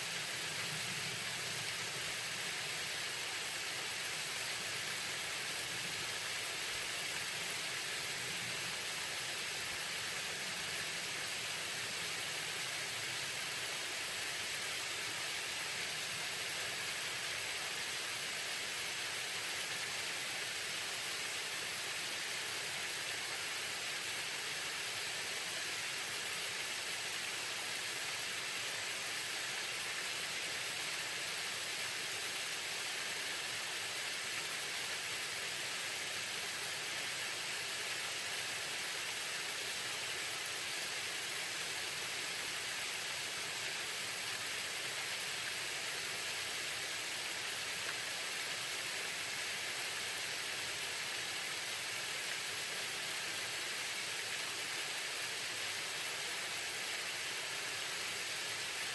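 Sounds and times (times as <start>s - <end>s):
waterfall splashing: 1.2s - 58.9s.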